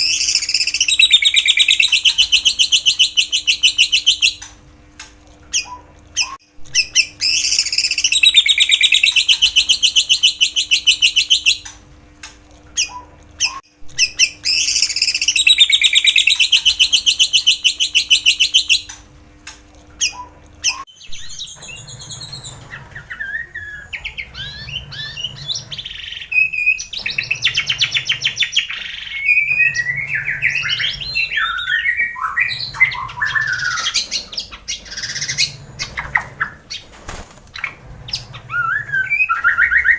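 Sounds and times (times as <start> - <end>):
songbird trilling and whistling: 0.0 - 4.5, 5.5 - 11.7, 12.8 - 19.0, 20.0 - 36.9, 37.6 - 39.9.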